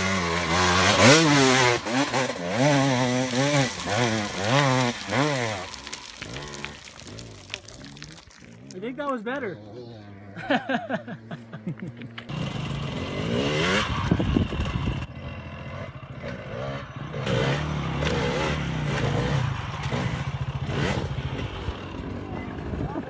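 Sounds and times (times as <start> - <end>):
dirt bike engine revving: 0.0 - 7.8, 12.2 - 23.0.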